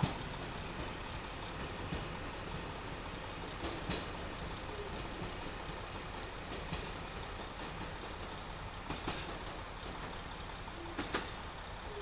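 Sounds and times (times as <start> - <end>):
train rumbling along track: 0.0 - 12.0
wheels clacking over rail joints: 0.0 - 12.0.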